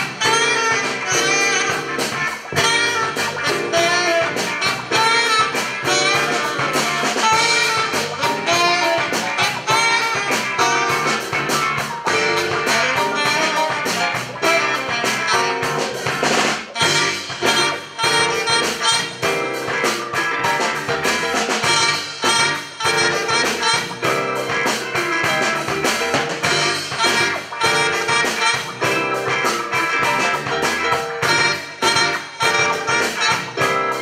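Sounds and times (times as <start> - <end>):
instrumental music with quick beat: 0.0 - 34.0.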